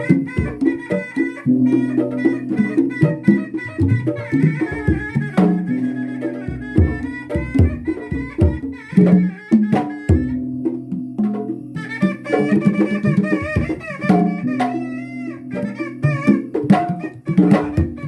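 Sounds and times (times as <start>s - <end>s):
hand drums: 0.0s - 18.0s
wavering wind instrument melody: 0.0s - 18.0s.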